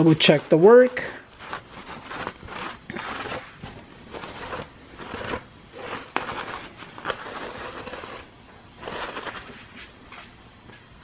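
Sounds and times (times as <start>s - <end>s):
cloth rag wiping metal: 0.0s - 10.2s.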